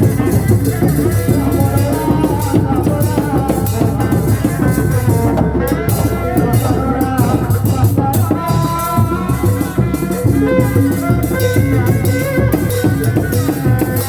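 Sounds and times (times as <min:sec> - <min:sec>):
percussion ensemble music: 0:00.0 - 0:14.0.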